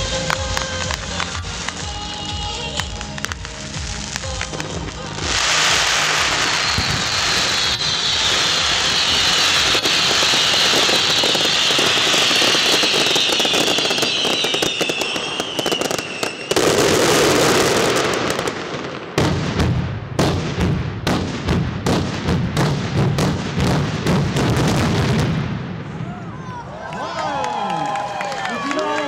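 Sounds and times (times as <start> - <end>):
fireworks crackling with hiss: 0.0 - 25.5
fireworks bangs: 0.0 - 26.5.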